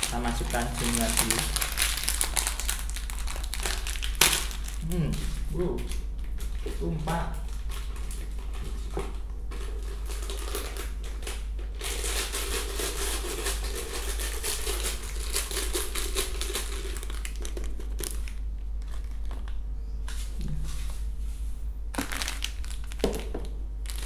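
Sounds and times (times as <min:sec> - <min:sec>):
food packaging crinkling: 0:00.0 - 0:06.7, 0:07.4 - 0:19.6, 0:21.9 - 0:24.0.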